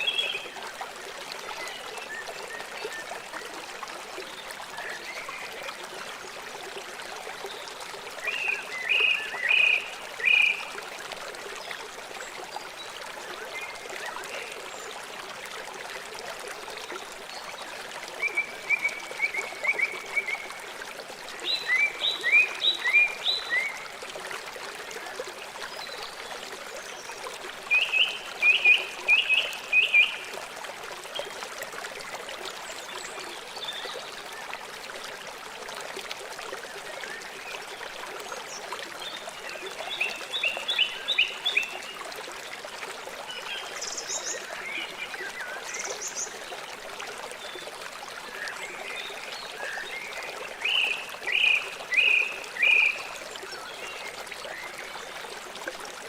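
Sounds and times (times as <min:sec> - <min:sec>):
river rushing and trickling: 0:00.0 - 0:56.0.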